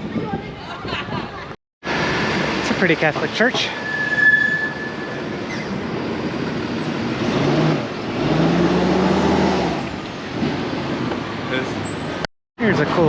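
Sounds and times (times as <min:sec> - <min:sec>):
car road and engine noise: 0:01.8 - 0:13.0.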